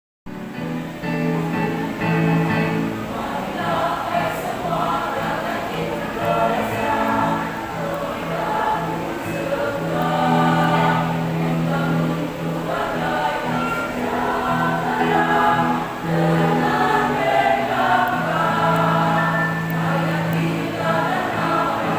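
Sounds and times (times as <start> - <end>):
women's choir singing: 1.3 - 21.9.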